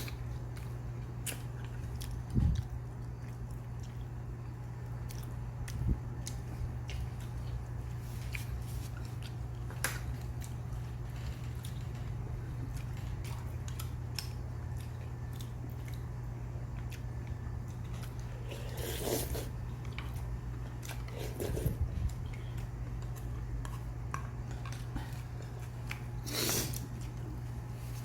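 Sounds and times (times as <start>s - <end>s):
person chewing food: 0.0s - 28.0s
steady low hum: 0.0s - 28.0s.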